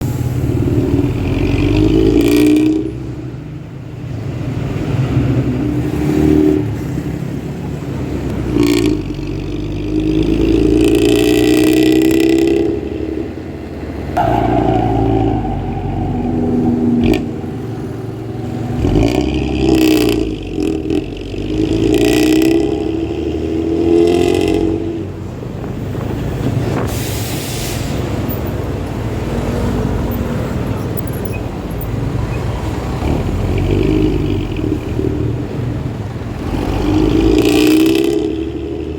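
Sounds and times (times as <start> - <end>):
diesel bus engine revving: 0.0 - 30.8, 31.9 - 38.9.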